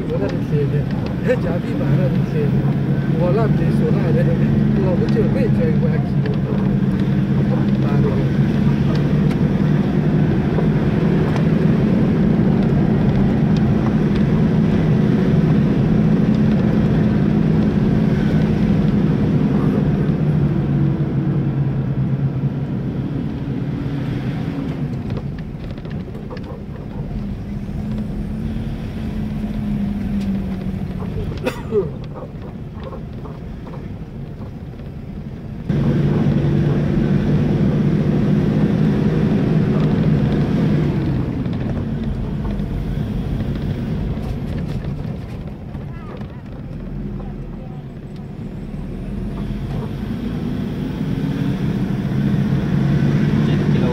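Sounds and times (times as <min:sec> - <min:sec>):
vehicle engine hum: 0:00.0 - 0:53.9.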